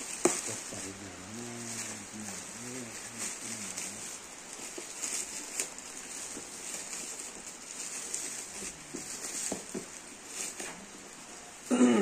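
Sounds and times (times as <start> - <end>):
foil wrap crinkling: 0.0 - 11.6.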